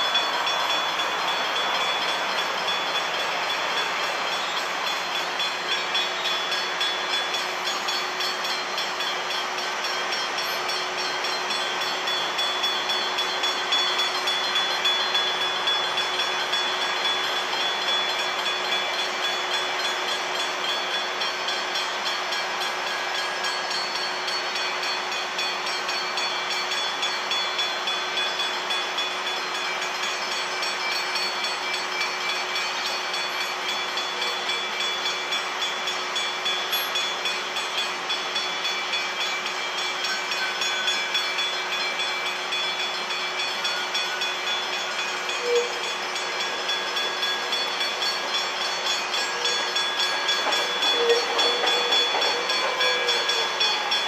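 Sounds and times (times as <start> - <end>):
level crossing warning bells: 0.0 - 54.0.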